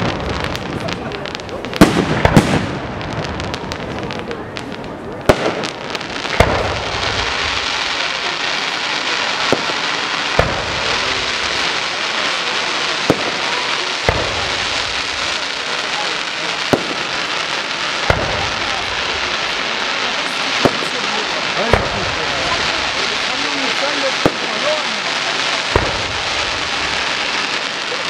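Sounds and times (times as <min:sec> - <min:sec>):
dense firework crackle: 0:00.0 - 0:28.0
firework shells bursting: 0:01.5 - 0:04.0, 0:04.6 - 0:27.9.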